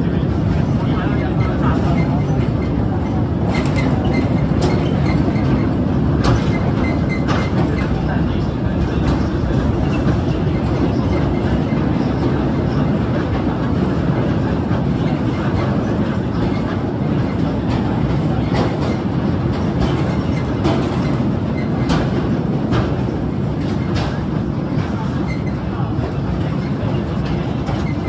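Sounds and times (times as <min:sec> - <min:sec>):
rail clicks: 0:00.0 - 0:28.0
train wheels rumbling: 0:00.0 - 0:28.0.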